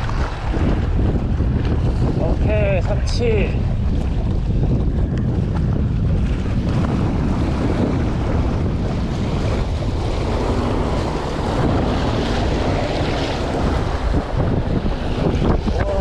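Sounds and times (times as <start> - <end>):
ocean waves against rocks: 0.0 - 16.0
wind buffeting microphone: 0.0 - 16.0.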